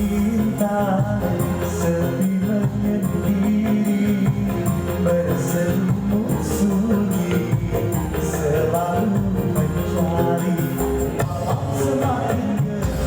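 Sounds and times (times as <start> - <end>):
band music over sound system: 0.0 - 13.0.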